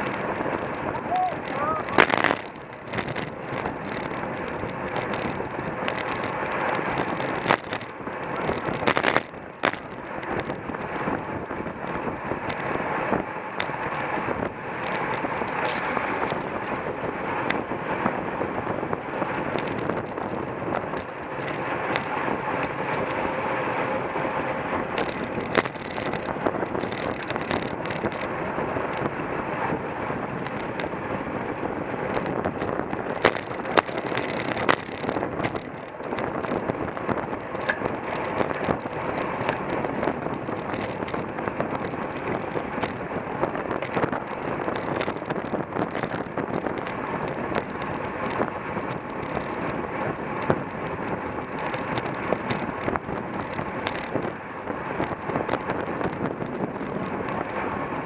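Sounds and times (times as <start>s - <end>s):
bicycle tyres on road: 0.0s - 58.0s.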